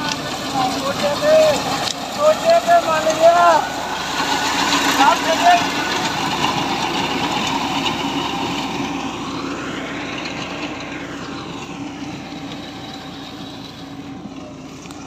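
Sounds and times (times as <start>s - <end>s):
reaper cutting wheat: 0.0s - 15.0s
tractor engine running: 0.0s - 15.0s.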